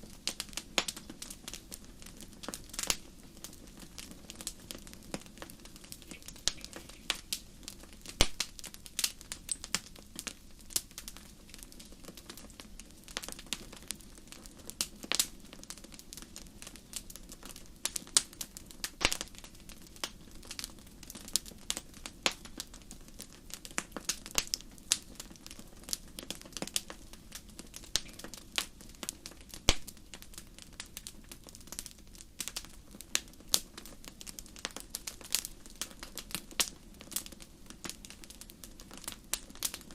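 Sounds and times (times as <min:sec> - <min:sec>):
campfire crackling: 0:00.0 - 0:39.9
low rush of burning fire: 0:00.0 - 0:39.9.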